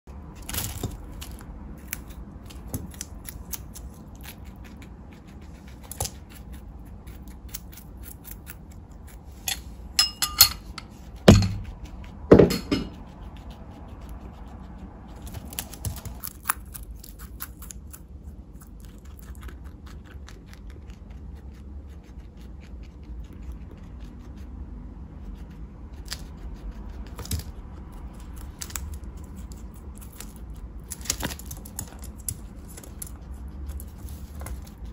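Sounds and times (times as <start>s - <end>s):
guinea pig crunching carrot: 0.1s - 9.9s, 10.9s - 12.3s, 12.9s - 34.9s.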